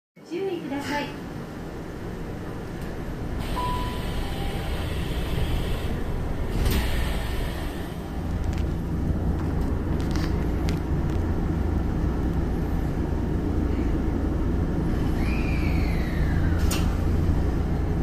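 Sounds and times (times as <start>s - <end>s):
train equipment humming: 0.4s - 18.0s.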